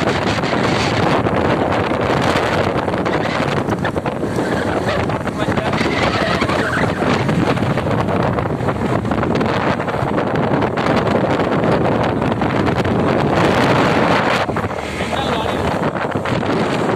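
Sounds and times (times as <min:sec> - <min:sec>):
road noise: 0:00.0 - 0:16.9
wind buffeting microphone: 0:00.0 - 0:16.9.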